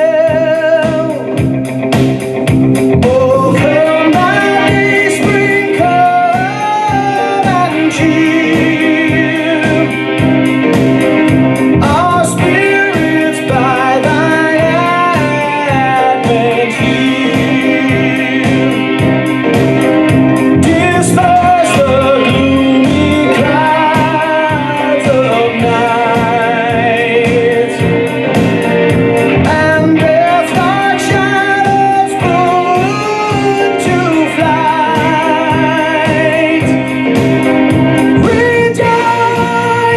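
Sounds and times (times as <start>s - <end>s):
person singing with vibrato: 0.0s - 1.9s, 2.8s - 39.9s
instrumental backing: 0.0s - 39.9s.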